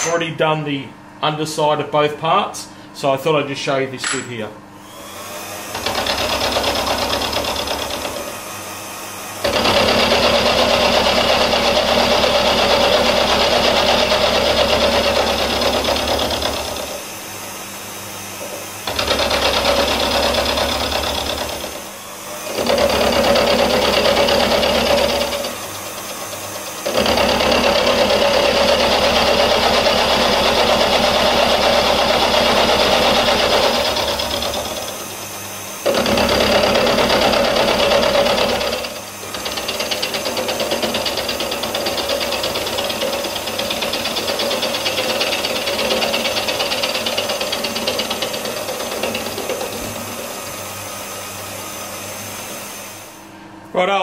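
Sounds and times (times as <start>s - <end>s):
milling machine cutting metal: 4.8s - 17.4s, 18.3s - 53.1s.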